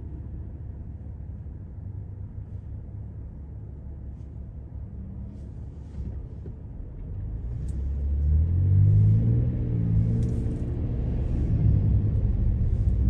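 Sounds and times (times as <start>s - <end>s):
car engine rumble from inside cabin: 0.0s - 13.0s.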